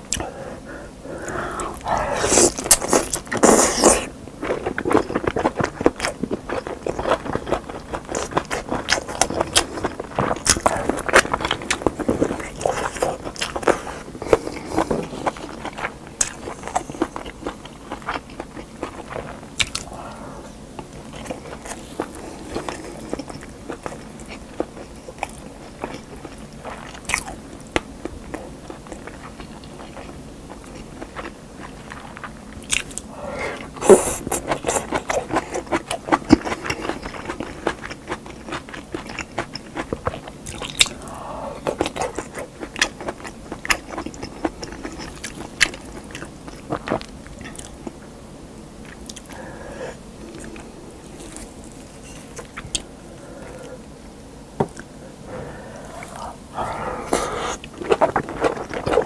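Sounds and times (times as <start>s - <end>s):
wet chewing and lip-smacking: 1.2s - 20.2s, 20.8s - 48.0s, 48.8s - 49.4s, 54.7s - 59.0s.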